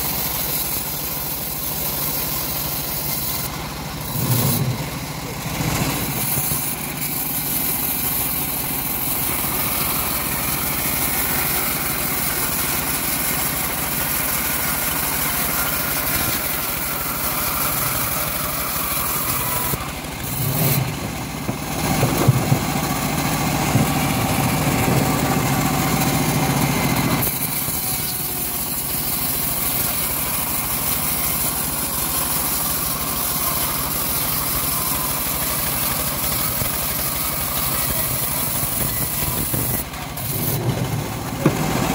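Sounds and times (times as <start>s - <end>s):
bandsaw mill cutting log: 0.0s - 41.9s.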